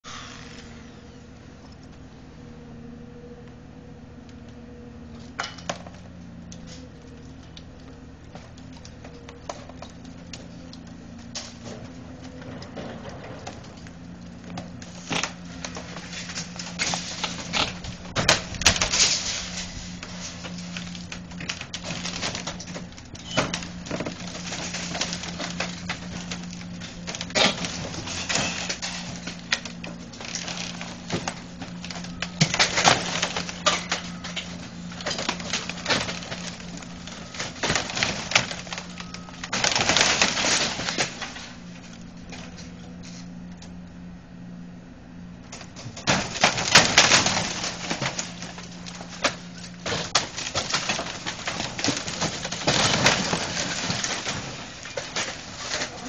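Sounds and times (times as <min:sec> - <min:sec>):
metal and debris crunching: 0:00.0 - 0:02.6, 0:03.4 - 0:56.0.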